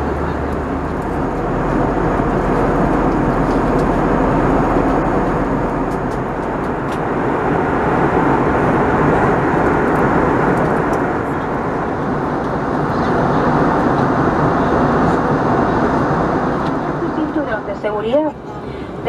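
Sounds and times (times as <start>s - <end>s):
jet engine hum: 0.0s - 19.0s
rush of airflow in cabin: 0.0s - 19.0s.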